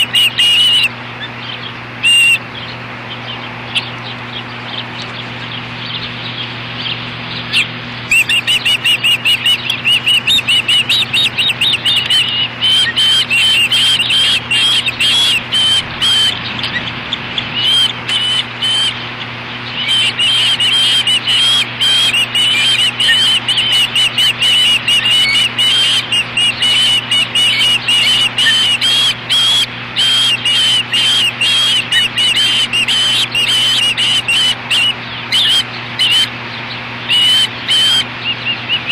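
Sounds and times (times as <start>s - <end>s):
ospreys piping chirps: 0.0s - 38.9s.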